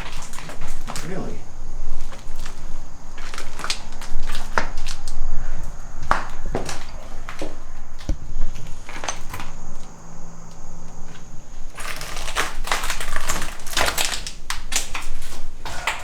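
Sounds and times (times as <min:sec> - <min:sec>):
footsteps crunching over debris: 0:00.0 - 0:16.0.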